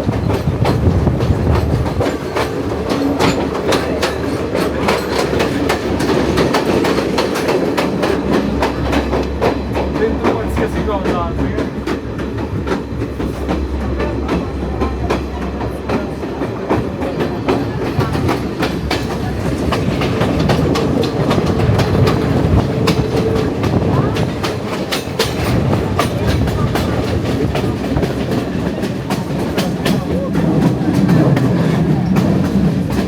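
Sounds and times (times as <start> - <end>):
train rumble inside carriage: 0.0 - 33.0
wheels clattering over rails: 0.0 - 33.0.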